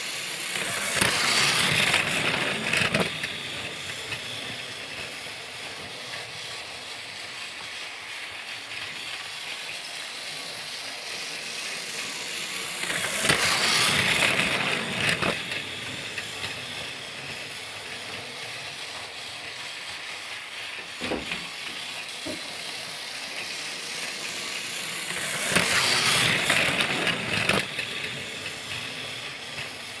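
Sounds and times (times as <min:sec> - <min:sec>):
toy train whirring and rattling: 0:00.0 - 0:30.0.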